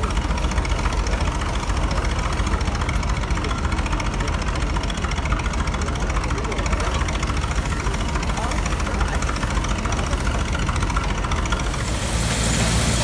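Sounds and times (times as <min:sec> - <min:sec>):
steam traction engine running: 0:00.0 - 0:13.0.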